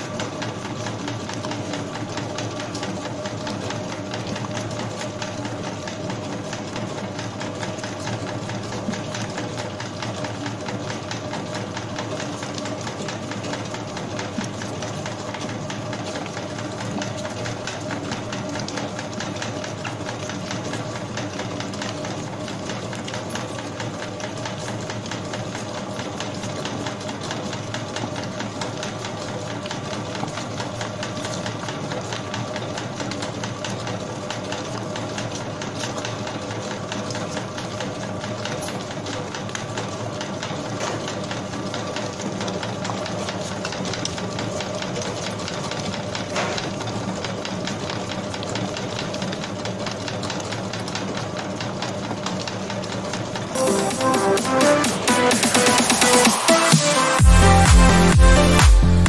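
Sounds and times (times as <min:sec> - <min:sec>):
dough mixer humming and rattling: 0:00.0 - 0:53.6.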